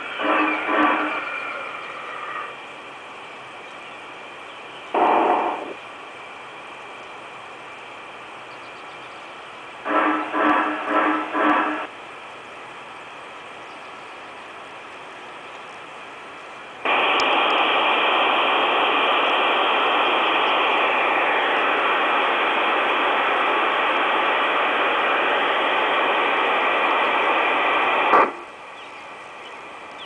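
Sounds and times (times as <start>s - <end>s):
loud steam hiss from speaker: 0.0s - 30.0s.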